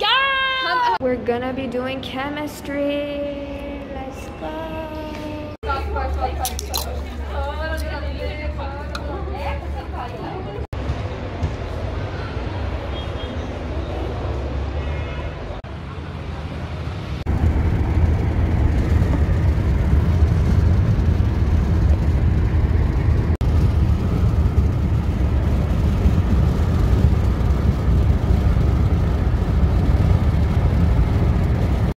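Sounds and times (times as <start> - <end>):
cars rumbling on a highway: 5.1 - 32.0.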